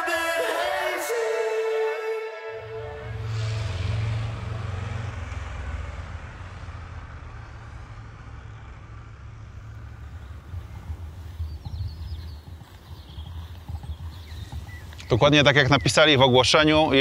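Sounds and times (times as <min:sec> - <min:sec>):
motorcycle engines low rumble: 0:02.7 - 0:17.0.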